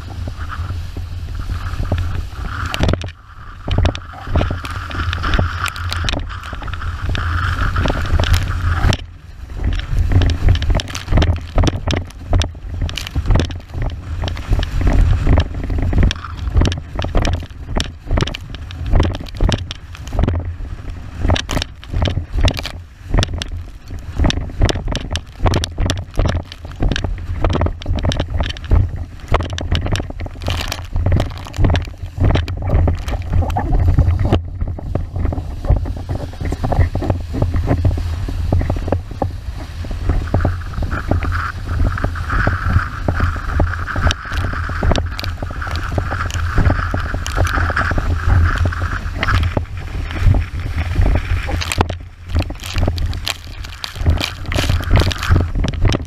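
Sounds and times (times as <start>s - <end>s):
high steady hiss: 0.0s - 56.0s
water rushing along board hull: 0.0s - 56.0s
water slapping: 0.0s - 56.0s
wind buffeting microphone: 0.0s - 56.0s.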